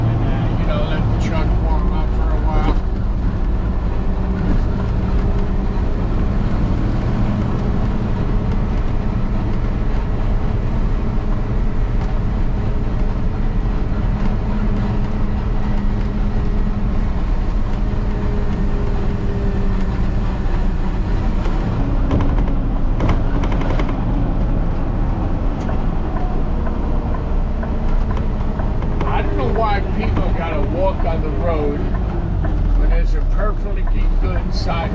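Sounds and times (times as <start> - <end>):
truck diesel engine drone: 0.0 - 34.9.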